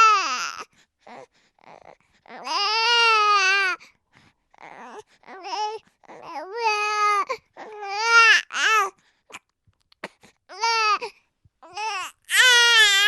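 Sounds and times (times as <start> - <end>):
baby crying: 0.0 - 3.8, 4.6 - 8.9, 10.5 - 13.0.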